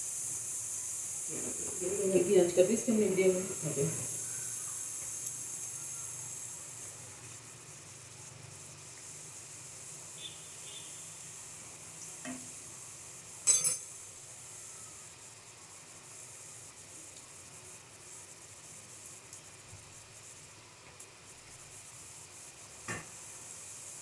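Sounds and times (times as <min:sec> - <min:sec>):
dough sizzling in frying oil: 0:00.0 - 0:24.0.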